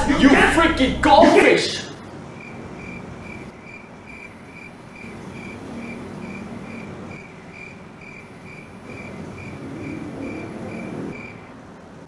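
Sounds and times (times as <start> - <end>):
low steady hiss: 0.0 - 12.0
cricket chirping: 1.9 - 12.0.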